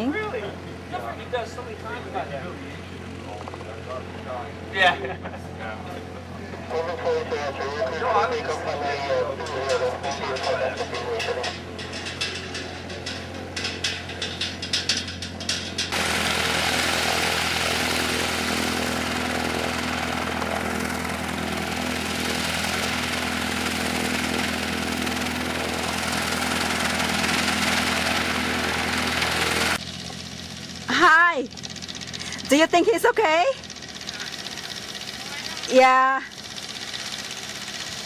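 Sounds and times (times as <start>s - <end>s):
light plane engine and propeller: 0.0s - 38.0s.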